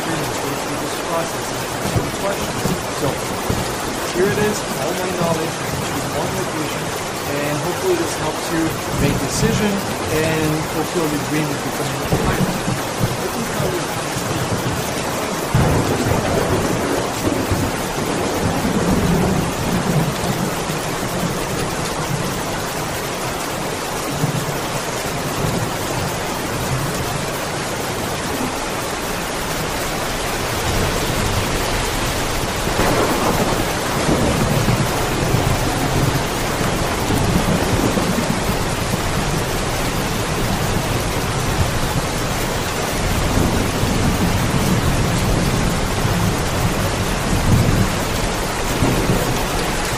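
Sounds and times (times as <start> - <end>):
low rolling thunder: 0.0 - 23.0, 28.2 - 49.9
rain hissing: 0.0 - 49.9.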